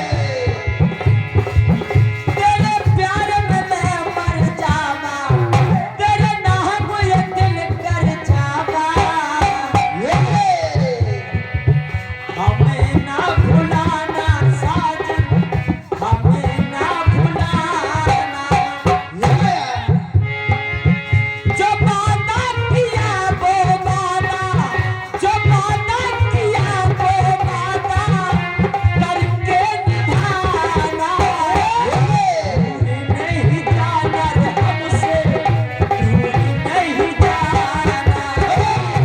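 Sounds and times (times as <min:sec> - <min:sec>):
harmonium-like chords: 0:00.0 - 0:09.7, 0:11.2 - 0:39.0
hand drum beating fast rhythm: 0:00.0 - 0:39.0
person singing: 0:00.0 - 0:39.0.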